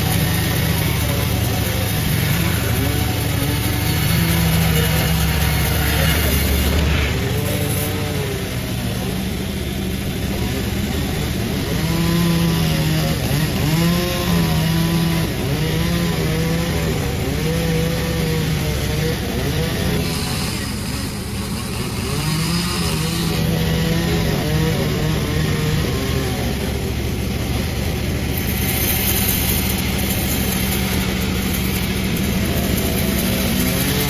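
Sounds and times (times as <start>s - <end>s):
chainsaw sawing wood: 0.0s - 34.0s.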